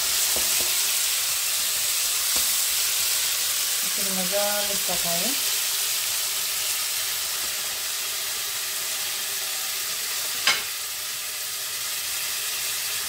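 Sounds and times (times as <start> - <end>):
pork sizzling in a pan: 0.0 - 13.0.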